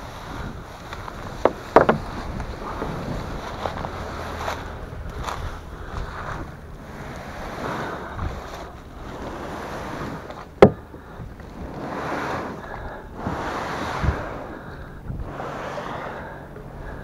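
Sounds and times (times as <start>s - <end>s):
plastic hull scraping through grass: 0.0s - 17.0s.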